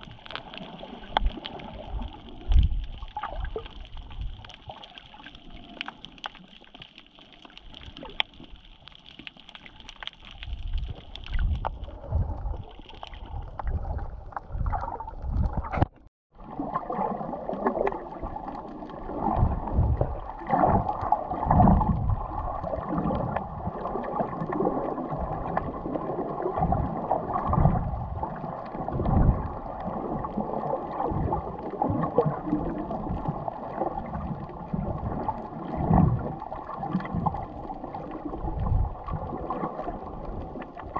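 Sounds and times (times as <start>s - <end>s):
muffled underwater sloshing: 0.0s - 40.9s.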